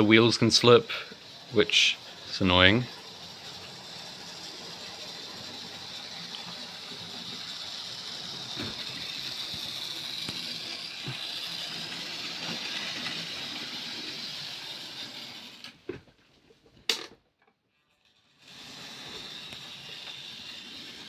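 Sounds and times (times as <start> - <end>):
model train motor whirring: 0.0 - 15.9, 17.9 - 21.0.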